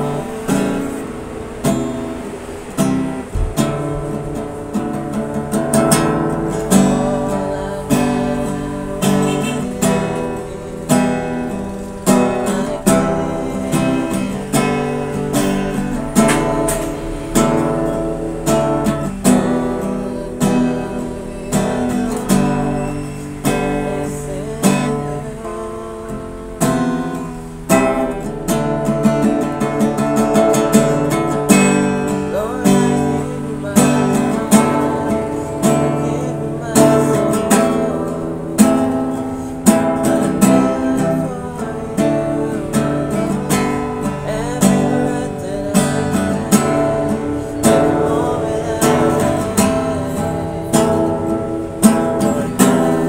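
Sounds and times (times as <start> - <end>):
acoustic guitar strumming: 0.0 - 53.0
young man singing: 0.0 - 53.0.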